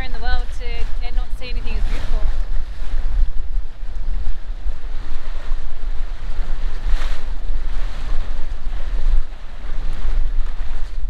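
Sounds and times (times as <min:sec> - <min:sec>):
sea water rushing around boat: 0:00.0 - 0:11.0
wind buffeting microphone: 0:00.0 - 0:11.0.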